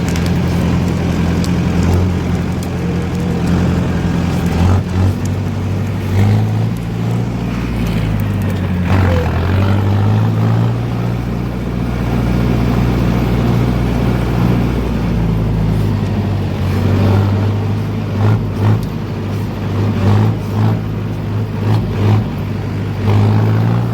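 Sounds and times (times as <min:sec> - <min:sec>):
diesel engine running under load: 0:00.0 - 0:23.9.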